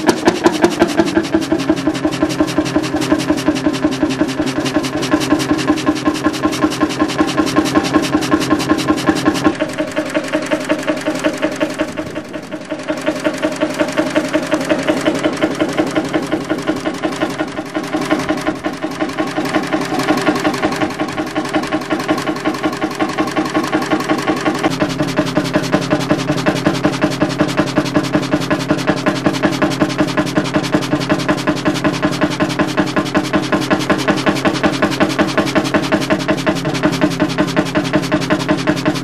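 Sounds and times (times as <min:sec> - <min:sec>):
engine running slowly: 0:00.0 - 0:39.0.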